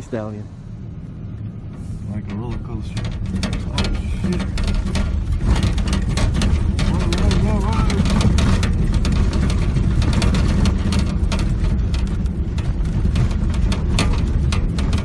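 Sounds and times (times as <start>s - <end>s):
engine and tyre rumble: 0.0s - 15.0s
vehicle knocks and rattles: 1.6s - 15.0s.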